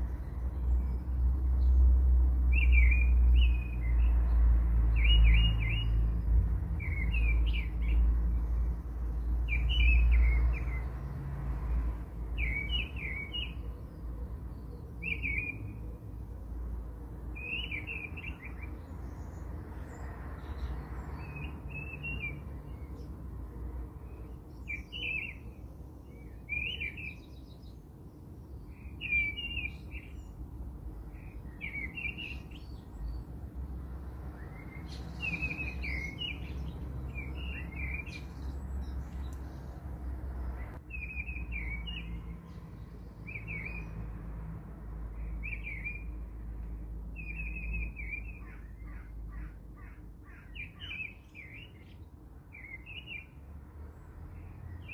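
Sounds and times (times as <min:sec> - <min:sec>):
small birds chirping: 0:00.0 - 0:44.2, 0:45.1 - 0:54.9.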